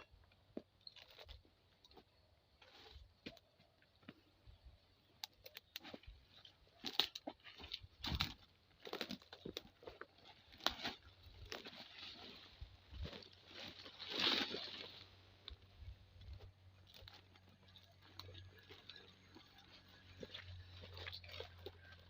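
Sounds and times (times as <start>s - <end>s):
dry fronds crunching and rustling: 0.8s - 22.0s.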